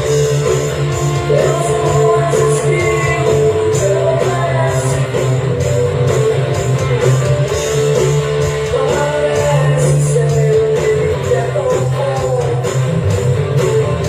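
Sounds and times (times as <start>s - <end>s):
electric guitar: 0.0s - 14.0s
rock band playing: 0.0s - 14.0s
steady bass line: 0.0s - 14.0s.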